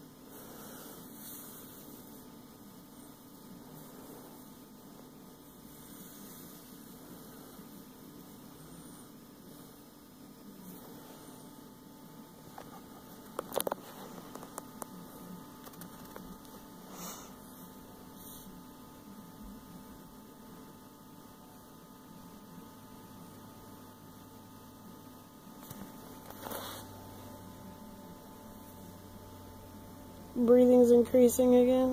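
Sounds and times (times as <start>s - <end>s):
steady electrical hum: 0.0s - 31.9s.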